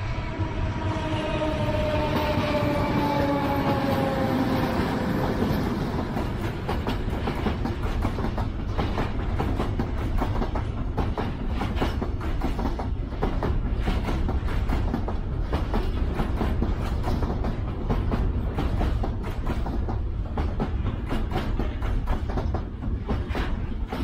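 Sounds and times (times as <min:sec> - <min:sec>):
diesel locomotive engine drone: 0:00.0 - 0:24.0
train wheels clickety-clack: 0:00.4 - 0:24.0.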